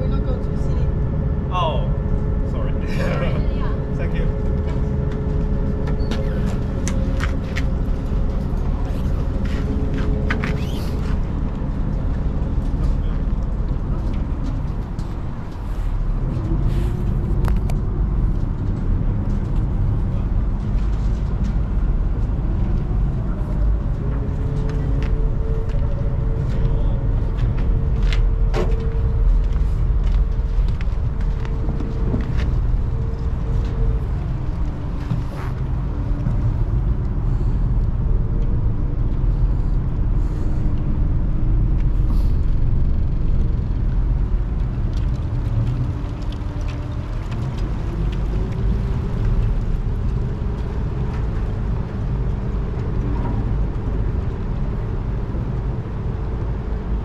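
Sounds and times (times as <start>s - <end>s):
ferry engine rumbling: 0.0s - 57.0s.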